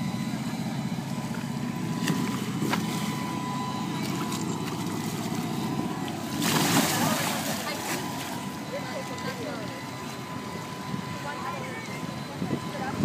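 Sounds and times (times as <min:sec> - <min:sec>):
small motor droning: 0:00.0 - 0:13.0
thin whine: 0:00.0 - 0:13.0.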